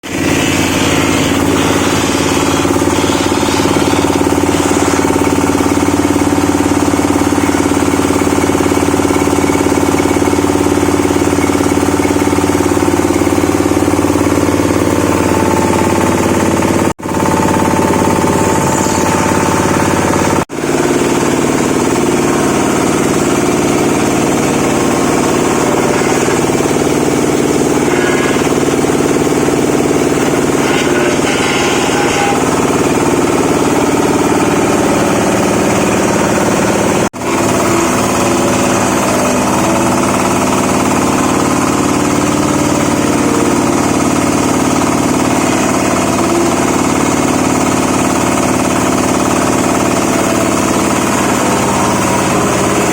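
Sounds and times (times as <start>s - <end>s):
branch shredder running: 0.0s - 52.9s.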